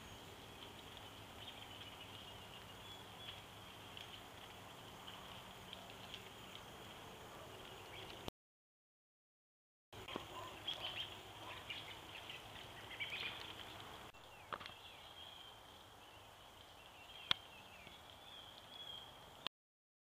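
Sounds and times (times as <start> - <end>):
small birds chirping: 0.0 - 8.3, 10.0 - 19.5.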